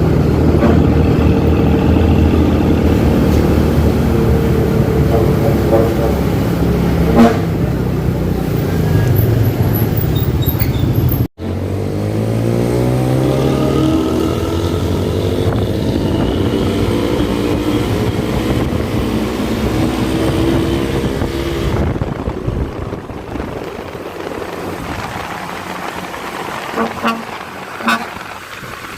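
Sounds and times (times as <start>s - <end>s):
bus engine accelerating: 0.0s - 28.9s.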